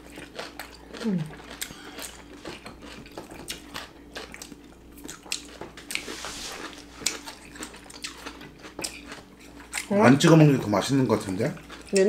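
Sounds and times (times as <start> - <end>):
wet chewing and lip-smacking: 0.0 - 9.9, 11.6 - 12.0.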